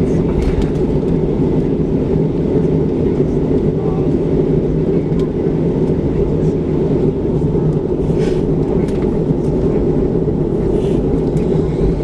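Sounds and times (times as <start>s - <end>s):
aircraft cabin rumble: 0.0s - 12.0s
constant hum: 0.0s - 12.0s.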